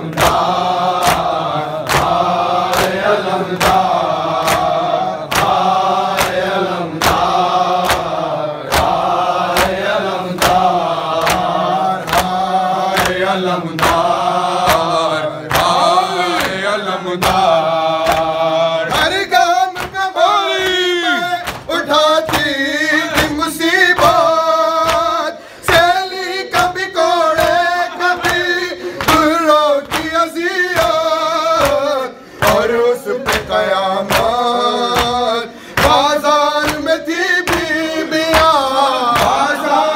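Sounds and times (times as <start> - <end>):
men chanting a lament: 0.0 - 39.9
chest-beating slaps: 0.1 - 19.1, 21.4 - 25.1, 25.7 - 39.5.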